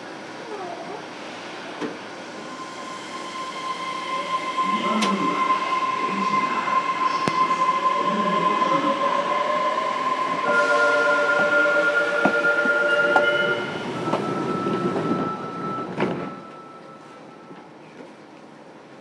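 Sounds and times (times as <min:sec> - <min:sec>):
train inverter whining: 0:01.8 - 0:17.7.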